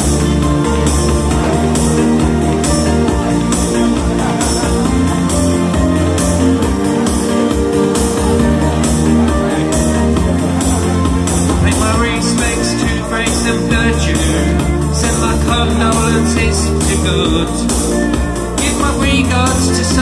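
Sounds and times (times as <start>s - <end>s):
loud amplified instrumental music: 0.0s - 20.0s.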